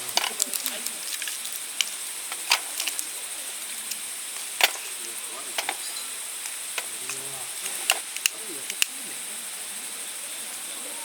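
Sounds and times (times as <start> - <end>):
wood popping: 0.0 - 9.0
campfire hissing: 0.0 - 11.0.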